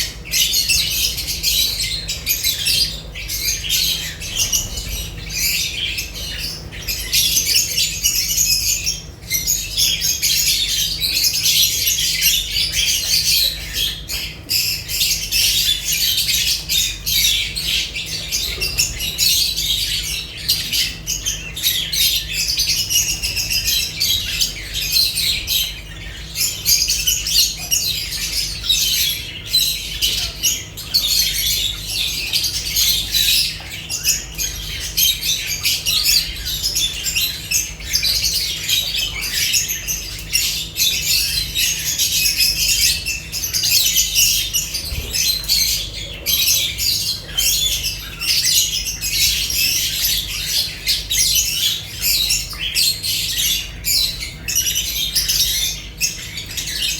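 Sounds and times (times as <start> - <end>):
lovebirds chattering and squawking: 0.0 - 56.9.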